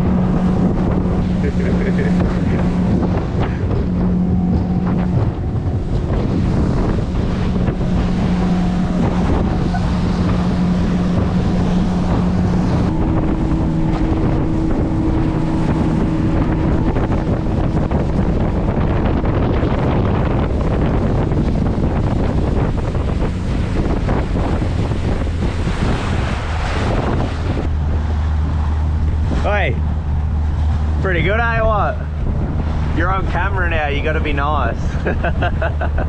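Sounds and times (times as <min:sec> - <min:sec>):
motorboat engine drone: 0:00.0 - 0:36.0
rushing water: 0:00.0 - 0:36.0
wind buffeting microphone: 0:00.0 - 0:36.0.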